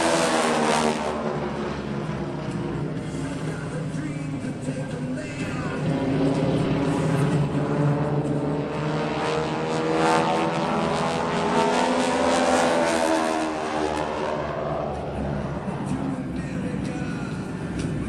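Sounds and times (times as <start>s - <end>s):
propeller planes droning overhead: 0.0s - 18.0s.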